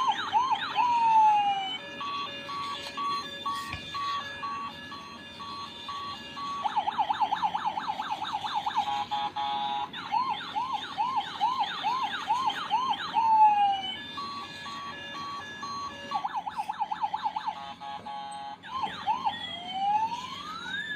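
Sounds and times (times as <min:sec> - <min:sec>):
electronic toy siren: 0:00.0 - 0:20.9.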